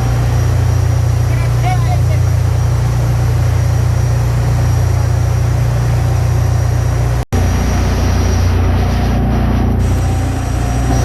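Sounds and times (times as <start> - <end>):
engine-room machinery drone: 0.0 - 11.0
faint high whine: 0.0 - 11.0.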